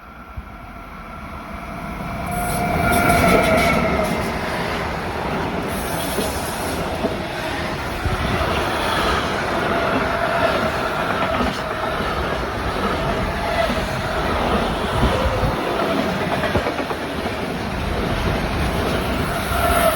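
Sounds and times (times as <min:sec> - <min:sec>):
train wheels rumbling on track: 0:00.0 - 0:19.9.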